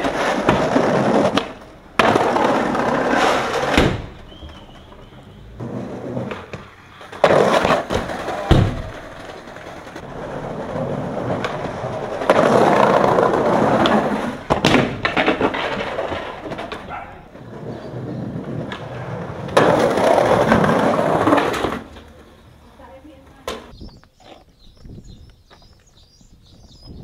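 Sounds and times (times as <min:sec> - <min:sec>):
skateboard hitting wall and ground: 0:00.0 - 0:22.4
skateboard wheels rolling on tiles: 0:00.0 - 0:27.0.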